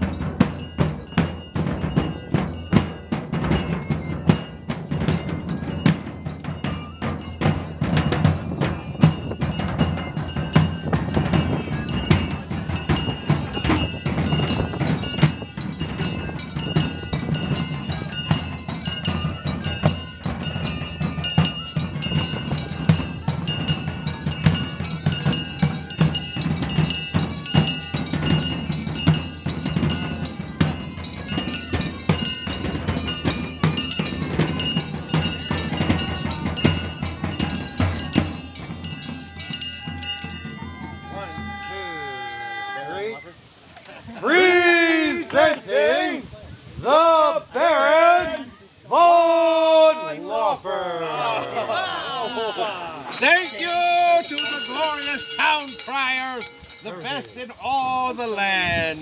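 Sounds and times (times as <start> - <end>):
drum band playing fast beat: 0.0 - 43.2, 51.2 - 59.0
pipes holding steady notes: 0.0 - 43.6, 53.1 - 59.0.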